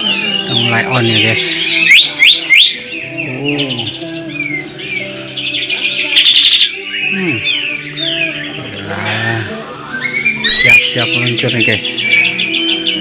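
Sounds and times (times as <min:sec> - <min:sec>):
bird whistling and trilling: 0:00.0 - 0:13.0.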